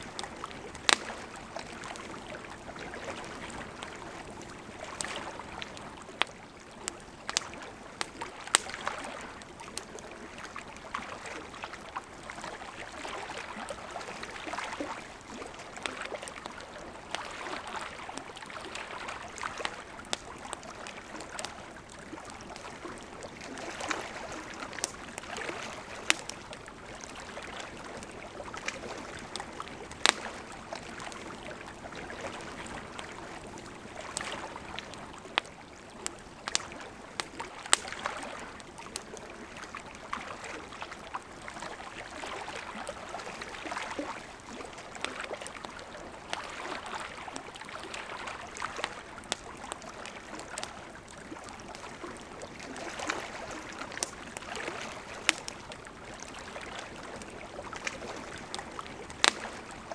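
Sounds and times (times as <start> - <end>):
burning wood crackling and popping: 0.0 - 46.9, 47.6 - 59.9.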